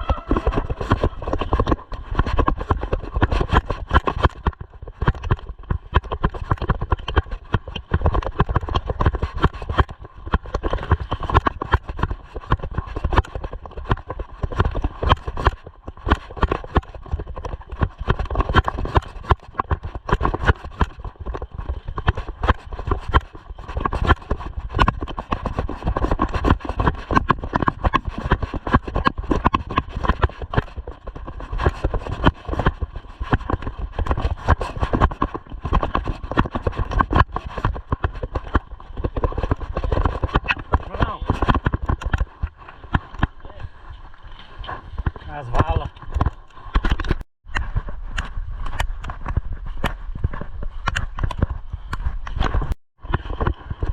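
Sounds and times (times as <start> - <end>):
mountain bike rattling: 0.0 - 47.8
wind rumbling on microphone: 0.0 - 53.9.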